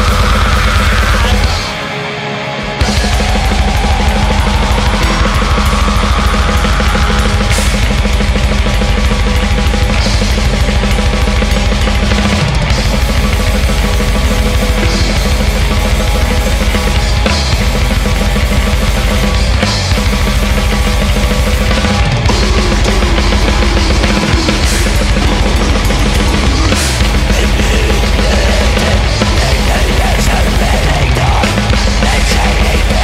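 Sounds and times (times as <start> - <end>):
fast heavy drumming: 0.0 - 2.0, 2.7 - 33.0
black metal band playing: 0.0 - 33.0.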